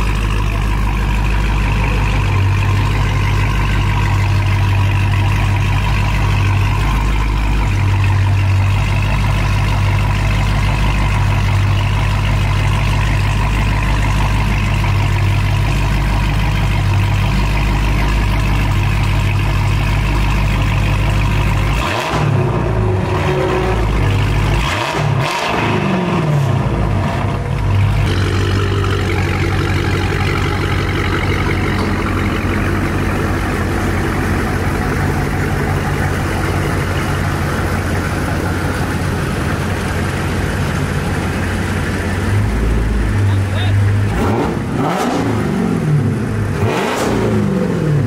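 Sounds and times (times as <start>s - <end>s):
loud deep car engine idling: 0.0s - 48.0s.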